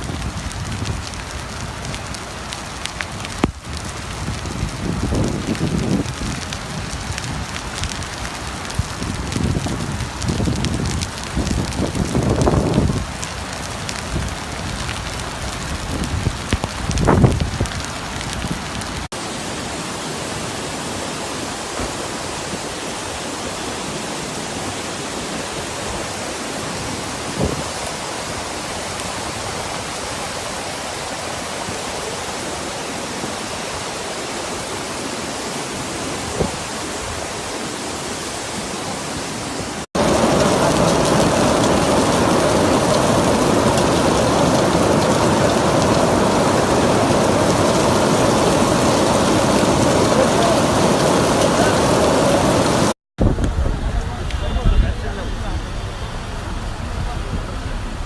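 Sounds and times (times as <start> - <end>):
heavy rain: 0.0 - 58.0
running floodwater: 0.0 - 58.0.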